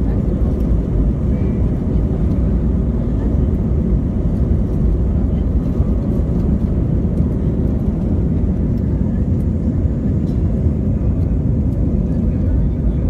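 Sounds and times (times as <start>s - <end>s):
jet engines deep rumble: 0.0s - 13.0s.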